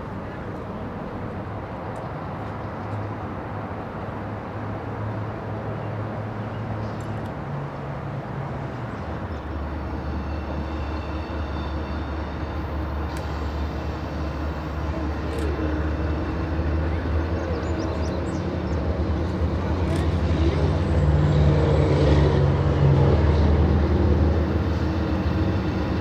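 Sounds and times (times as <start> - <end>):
diesel locomotive engines droning: 0.0 - 26.0.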